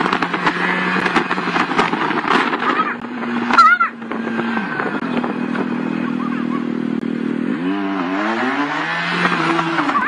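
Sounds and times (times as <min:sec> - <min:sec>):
motorcycle engine running: 0:00.0 - 0:10.0
road and wind noise: 0:00.0 - 0:10.0.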